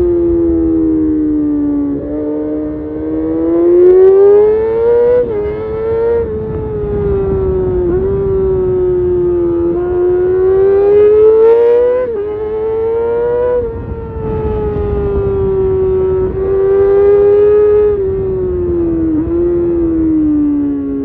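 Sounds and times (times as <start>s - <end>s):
motorcycle engine wailing: 0.0s - 21.0s.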